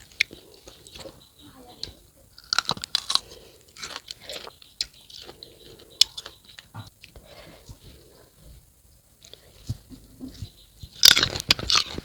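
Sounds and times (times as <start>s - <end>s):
chewing crisp fruit: 0.0s - 8.4s, 10.4s - 12.0s.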